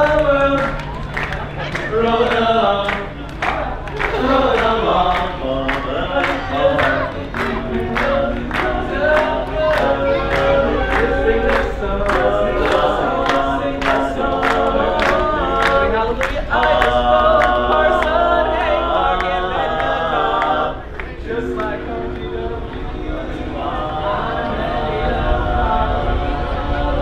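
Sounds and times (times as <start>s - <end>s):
barbershop quartet singing: 0.0s - 27.0s.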